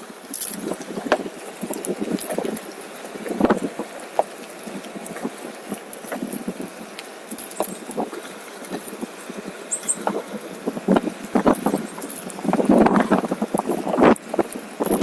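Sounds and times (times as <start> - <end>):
board wheels crackling on rough trail: 0.0 - 15.0.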